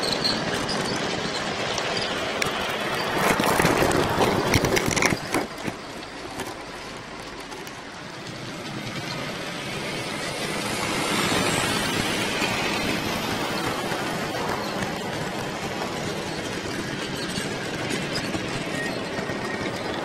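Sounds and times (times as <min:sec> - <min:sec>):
model train rolling rumble: 0:00.0 - 0:20.0.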